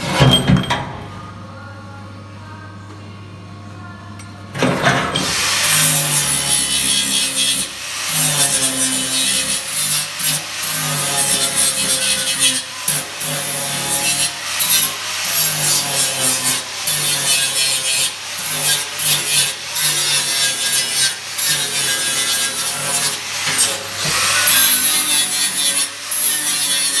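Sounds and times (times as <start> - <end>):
power tool scraping metal: 0.0 - 1.0, 4.6 - 27.0.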